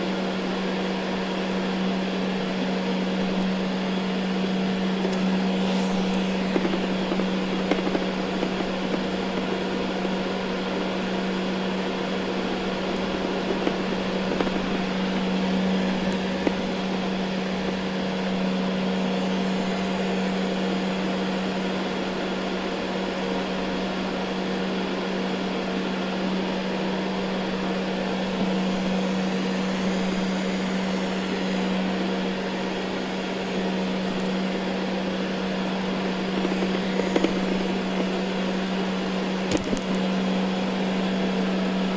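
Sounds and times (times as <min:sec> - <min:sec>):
robot vacuum running over carpet: 0:00.1 - 0:41.9.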